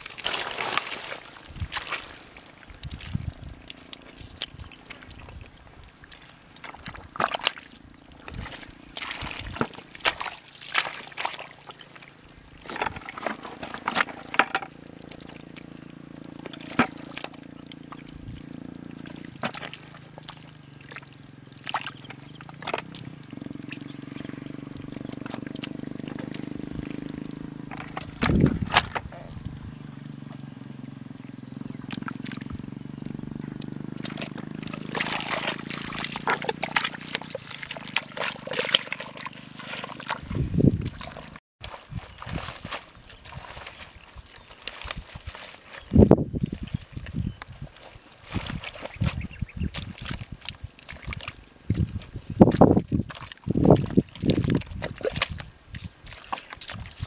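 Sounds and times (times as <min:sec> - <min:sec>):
mud squelching and sloshing: 0:00.0 - 0:57.0.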